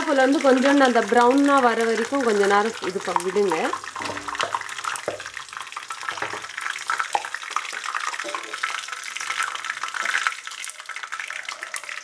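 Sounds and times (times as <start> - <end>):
leaves and seeds sizzling in oil: 0.0 - 12.0.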